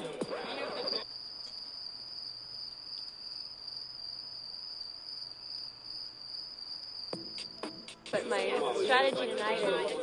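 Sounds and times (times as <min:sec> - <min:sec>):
crickets trilling: 0:00.0 - 0:08.8.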